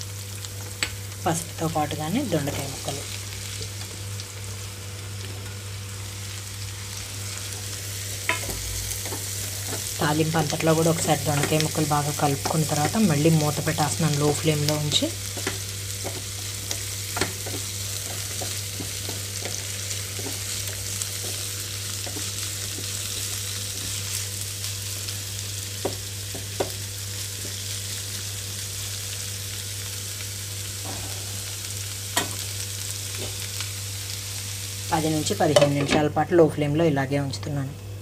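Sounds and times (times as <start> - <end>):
vegetables sizzling in oil: 0.0 - 37.3
steady low hum: 0.0 - 38.0.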